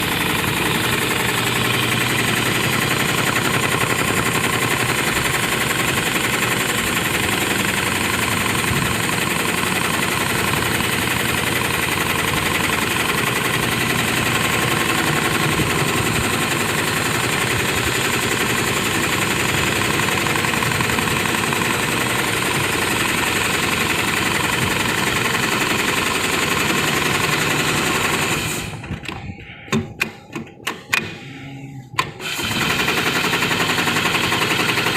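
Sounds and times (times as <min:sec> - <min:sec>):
sewing machine clatter: 0:00.0 - 0:29.2, 0:32.2 - 0:34.9.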